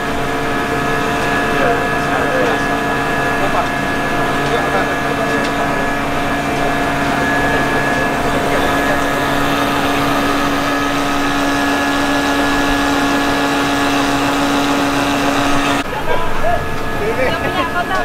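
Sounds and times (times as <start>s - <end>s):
pumping machinery humming: 0.0s - 18.0s.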